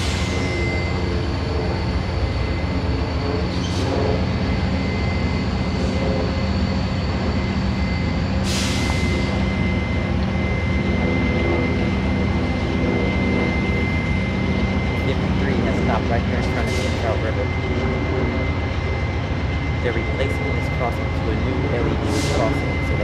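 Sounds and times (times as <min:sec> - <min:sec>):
diesel locomotive idling: 0:00.0 - 0:23.0
steady high tone: 0:00.0 - 0:23.0.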